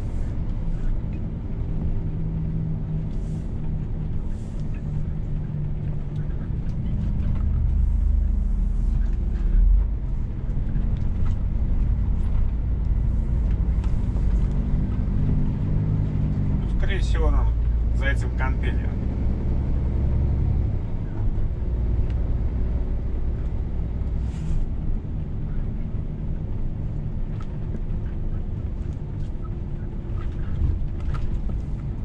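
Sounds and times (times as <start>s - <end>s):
truck engine drone inside cab: 0.0s - 32.0s.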